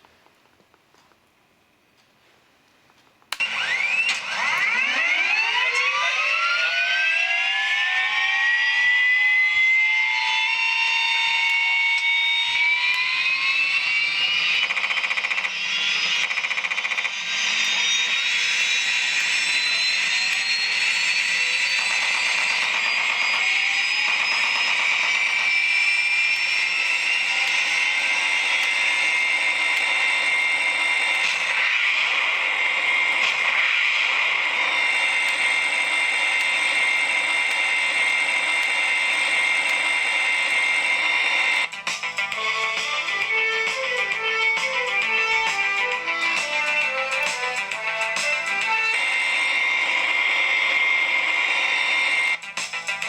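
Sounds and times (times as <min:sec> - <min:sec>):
helicopter turbine whine: 0:03.4 - 0:53.0.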